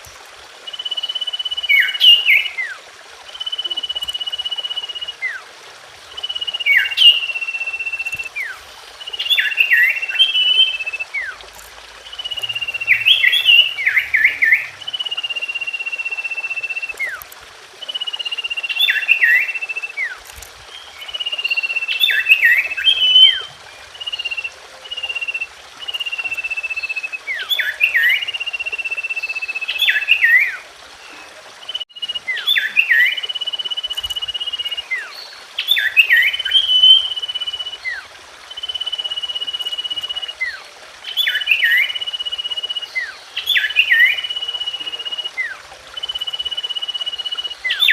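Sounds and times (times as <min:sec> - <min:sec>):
bird whistling and chirping: 0:00.7 - 0:05.4, 0:06.1 - 0:11.4, 0:12.0 - 0:17.2, 0:17.8 - 0:20.2, 0:20.8 - 0:47.9.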